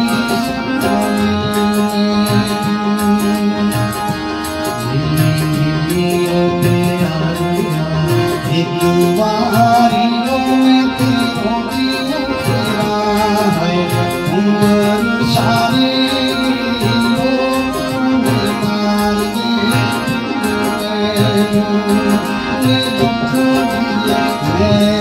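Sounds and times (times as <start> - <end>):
melodic instrumental accompaniment: 0.0 - 25.0
steady percussion beat: 0.0 - 25.0
man singing folk song: 4.9 - 25.0.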